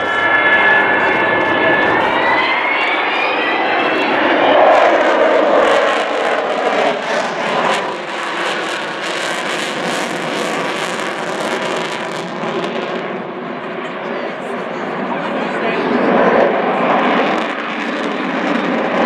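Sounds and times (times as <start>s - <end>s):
jet engine whine: 0.0s - 19.0s
jet engines roaring: 0.0s - 19.0s.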